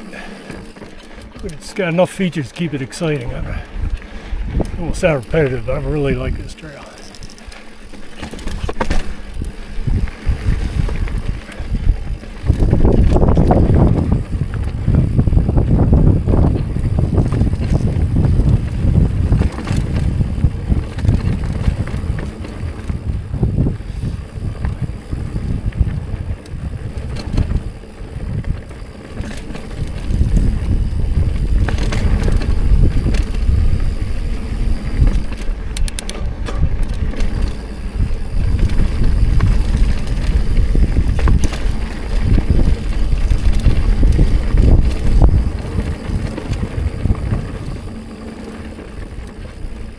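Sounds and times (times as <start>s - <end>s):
bike tyres clattering over rock: 0.0s - 49.9s
wind on microphone: 2.3s - 7.4s, 8.0s - 49.9s.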